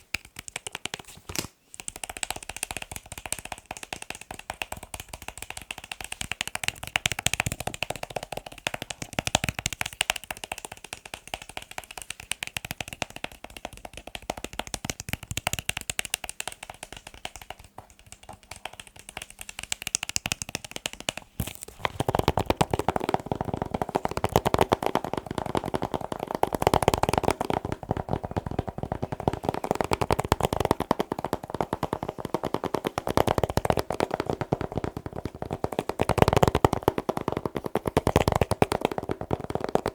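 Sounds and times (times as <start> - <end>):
fingers tapping on hard objects: 0.0 - 39.9.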